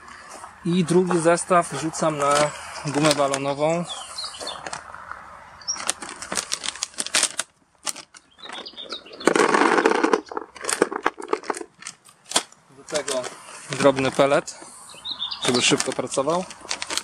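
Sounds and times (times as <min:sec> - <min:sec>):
plastic bags rustling: 0:00.2 - 0:04.9, 0:05.7 - 0:14.5, 0:15.4 - 0:17.0.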